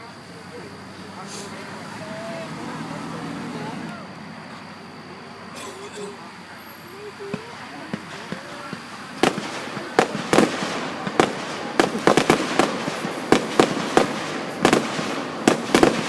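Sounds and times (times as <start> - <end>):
fireworks bangs: 0.0 - 5.3, 6.2 - 16.0.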